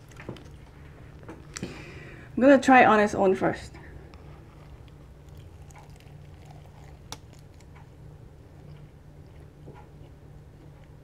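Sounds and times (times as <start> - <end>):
crunchy fried chicken chewing: 0.0 - 1.9, 4.0 - 11.0.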